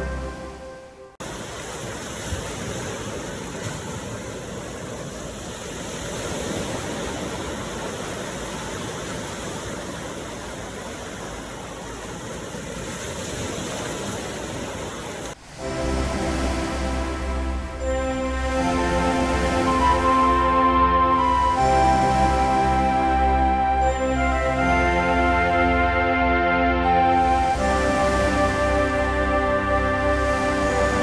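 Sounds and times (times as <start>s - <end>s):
ocean waves washing in: 0.0s - 31.0s.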